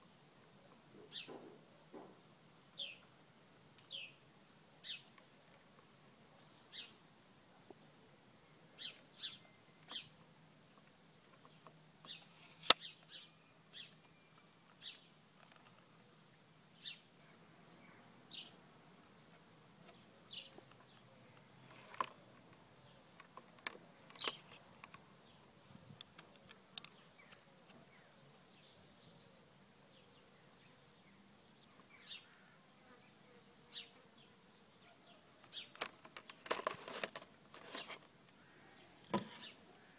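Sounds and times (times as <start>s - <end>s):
small birds chirping: 0.1s - 37.0s, 37.6s - 39.9s.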